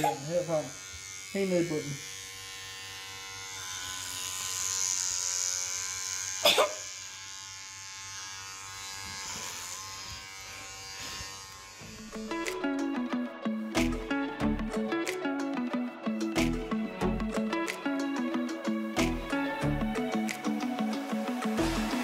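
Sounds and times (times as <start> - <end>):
hair clipper buzzing: 0.0 - 22.0.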